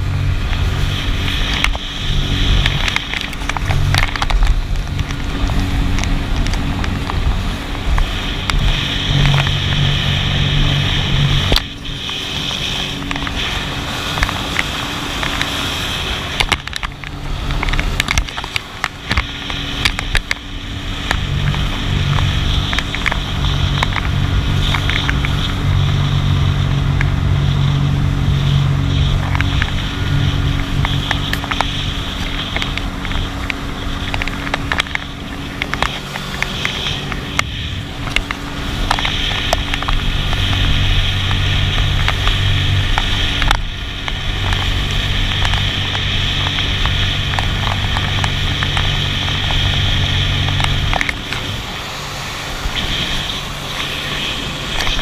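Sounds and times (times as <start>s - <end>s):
jet ski engine: 0.0s - 55.0s.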